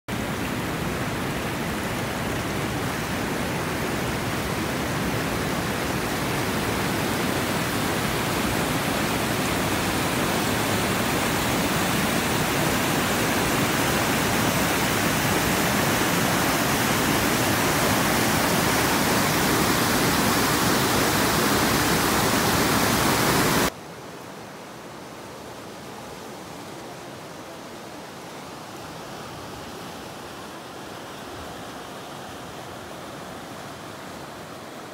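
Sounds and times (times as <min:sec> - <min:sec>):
water rushing over rapids: 0:00.1 - 0:34.9.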